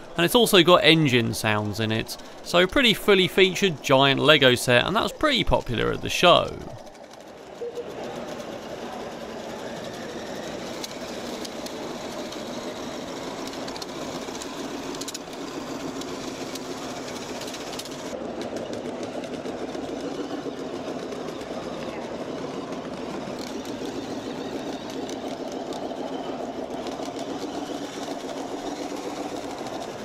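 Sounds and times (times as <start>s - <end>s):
simulated engine sound: 0.0s - 30.0s.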